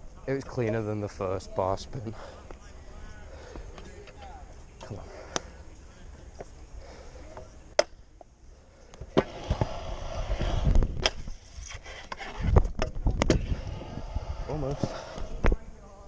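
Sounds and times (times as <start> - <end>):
scooter wheels rolling on concrete: 0.2 - 16.0.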